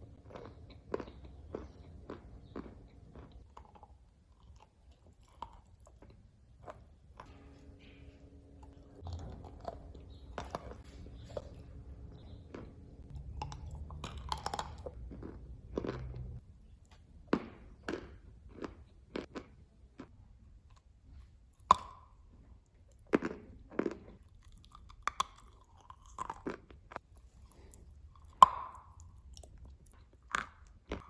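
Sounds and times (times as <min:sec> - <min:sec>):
crunchy chewing: 0:00.0 - 0:31.0.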